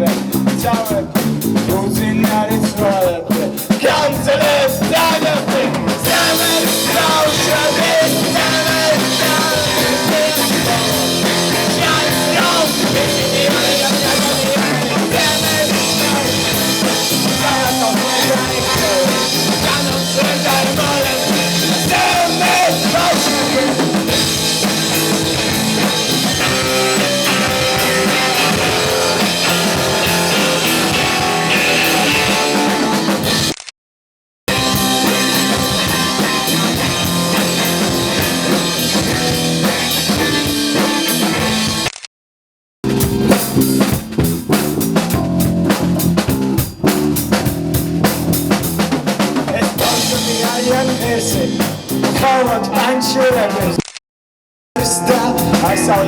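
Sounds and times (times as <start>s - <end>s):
rock band playing instrumental: 0.0s - 33.6s, 34.5s - 42.0s, 42.8s - 53.8s, 54.8s - 56.0s.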